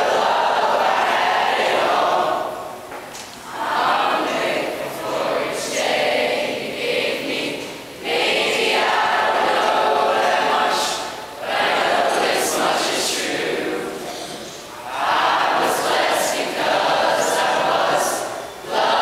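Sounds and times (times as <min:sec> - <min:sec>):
mixed choir singing: 0:00.0 - 0:02.9, 0:03.5 - 0:19.0.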